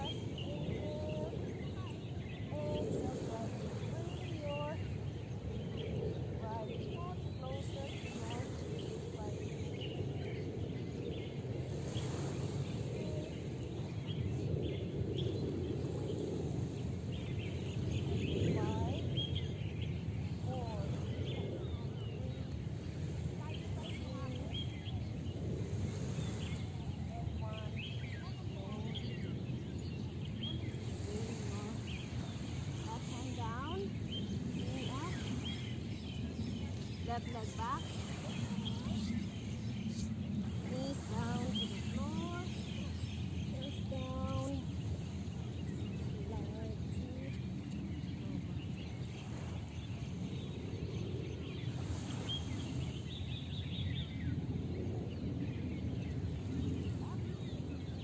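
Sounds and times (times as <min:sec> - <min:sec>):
birds chirping: 0:00.0 - 0:58.0
low outdoor rumble: 0:00.0 - 0:58.0.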